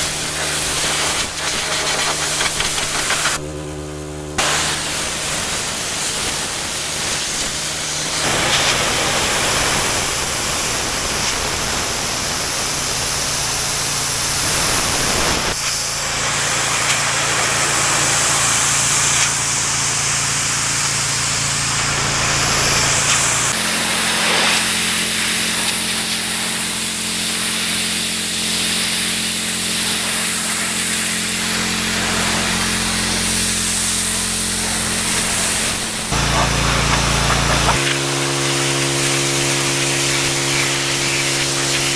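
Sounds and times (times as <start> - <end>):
pressure washer spray hiss: 0.0 - 3.4, 4.4 - 41.9
pressure washer motor humming: 0.0 - 41.9.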